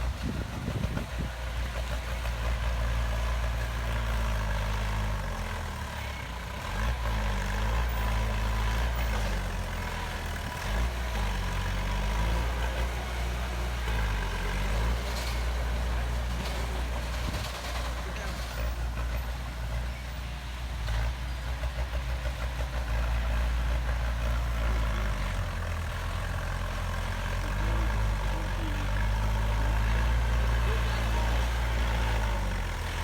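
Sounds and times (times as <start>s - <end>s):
heavy diesel engine under load: 0.0s - 33.0s.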